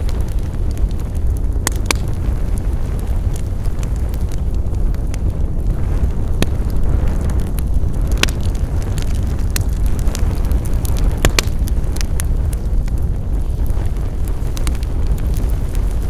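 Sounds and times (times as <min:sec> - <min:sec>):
steady low rumble: 0:00.0 - 0:16.0
wood fire crackling: 0:00.0 - 0:16.0.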